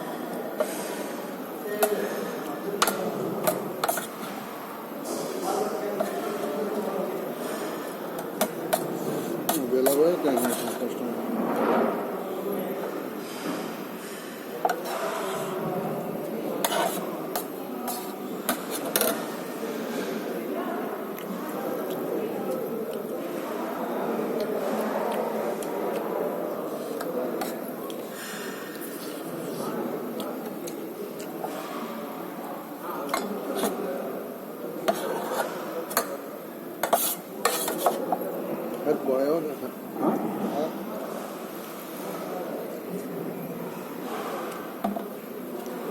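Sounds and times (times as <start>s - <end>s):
low background murmur: 0.0s - 45.9s.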